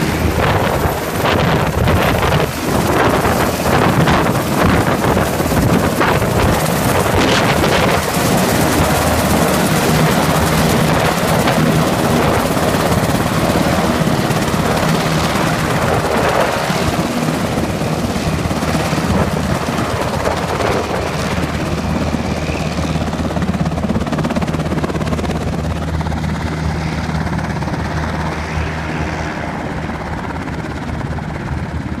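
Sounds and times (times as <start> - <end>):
helicopter rotor and engine running: 0.0 - 32.0.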